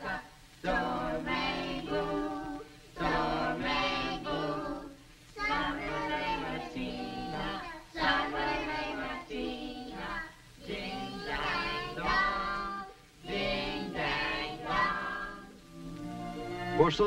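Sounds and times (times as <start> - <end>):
children singing: 0.0 - 15.6.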